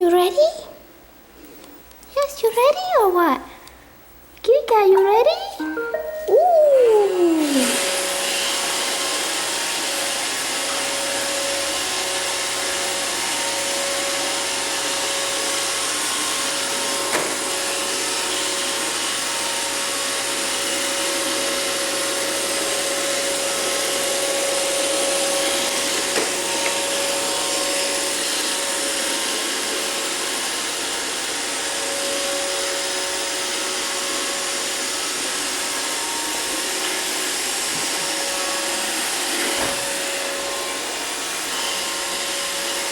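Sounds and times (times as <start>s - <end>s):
robot vacuum whirring: 7.1s - 42.9s.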